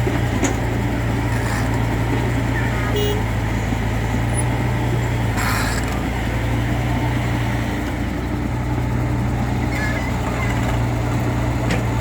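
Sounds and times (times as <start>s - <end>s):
heavy equipment engine running: 0.0s - 12.0s.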